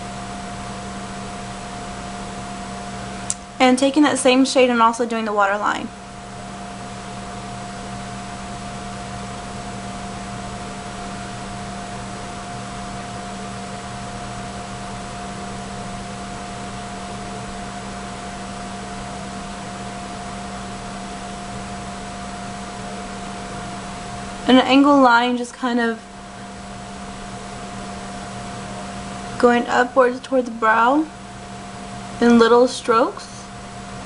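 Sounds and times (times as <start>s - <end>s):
electrical hum: 0.0s - 34.0s
faint steady whine: 0.0s - 34.0s.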